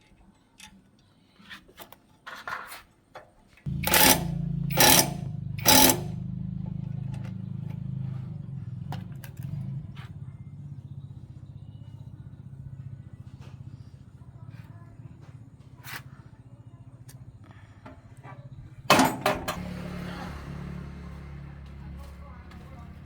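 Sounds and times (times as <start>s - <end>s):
engine bursts: 3.7s - 23.0s
small engine idling: 3.7s - 23.0s.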